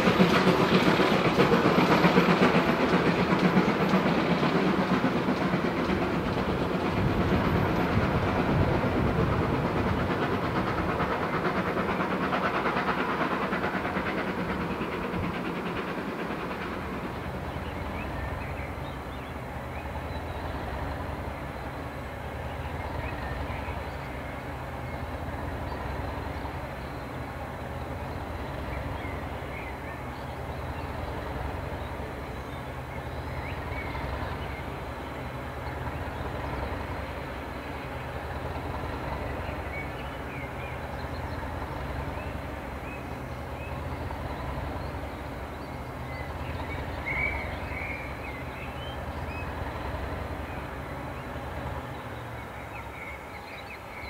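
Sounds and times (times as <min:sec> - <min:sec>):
birds chirping: 0:00.0 - 0:54.0
train diesel engine idling: 0:00.0 - 0:54.0.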